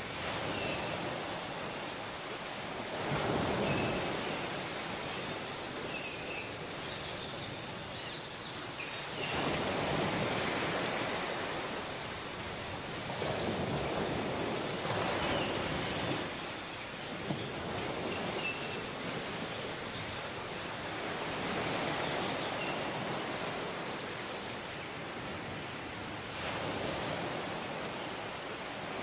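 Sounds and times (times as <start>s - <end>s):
waves washing in: 0.0s - 7.6s, 8.5s - 29.0s.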